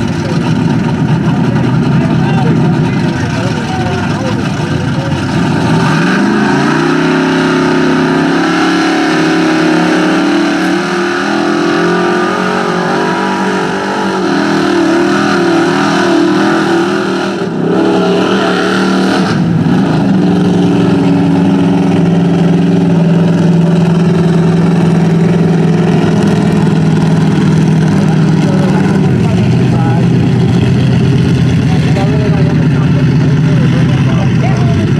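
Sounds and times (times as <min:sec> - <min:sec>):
truck engine revving: 0:00.0 - 0:34.9.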